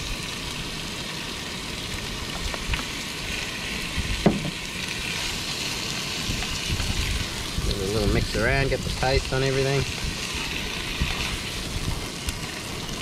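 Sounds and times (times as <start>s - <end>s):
fish sizzling in curry paste: 0.0s - 13.0s.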